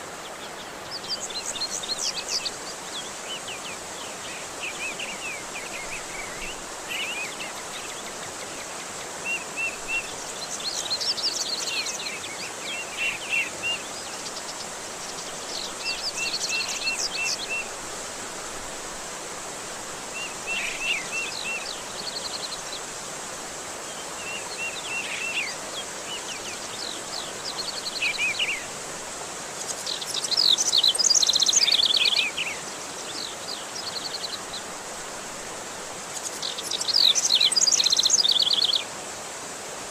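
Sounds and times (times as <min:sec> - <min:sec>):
running water: 0:00.0 - 0:39.9
songbirds chirping and trilling: 0:00.1 - 0:18.0, 0:23.6 - 0:38.9.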